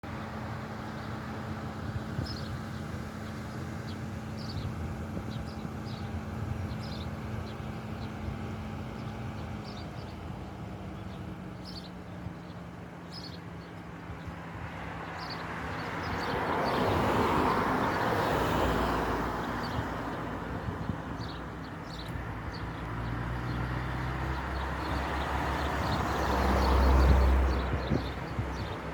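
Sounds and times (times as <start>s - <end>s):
vehicles passing: 0.0s - 28.9s.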